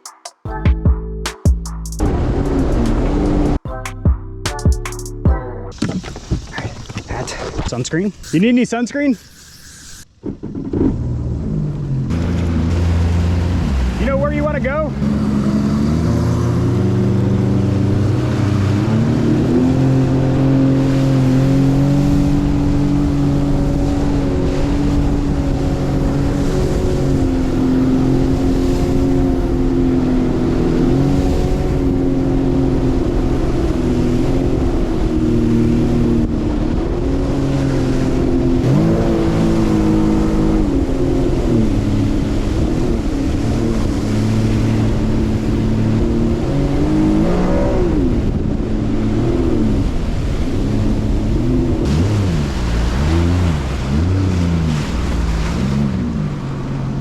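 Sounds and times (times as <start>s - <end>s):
boat engine running: 0.5s - 8.9s, 10.2s - 57.0s
wind and water noise: 2.0s - 3.6s, 5.7s - 57.0s.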